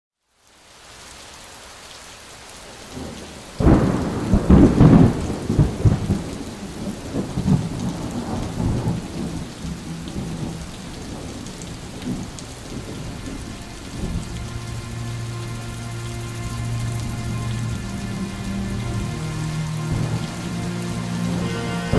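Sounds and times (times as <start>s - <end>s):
steady rain: 0.2s - 21.9s
thunder rumbling: 3.0s - 21.9s.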